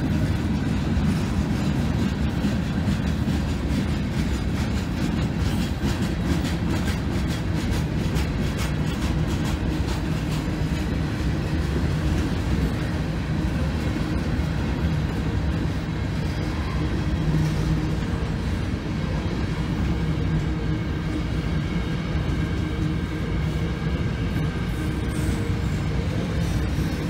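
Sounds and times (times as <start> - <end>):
steel wheels rumbling on rail: 0.0 - 27.0
wheels clicking and clattering: 0.0 - 27.0.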